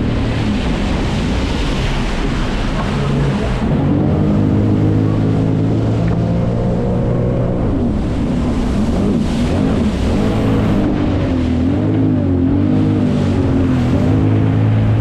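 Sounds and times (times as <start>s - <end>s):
jet ski engine running: 0.0s - 15.0s
rushing water and wind: 0.0s - 15.0s.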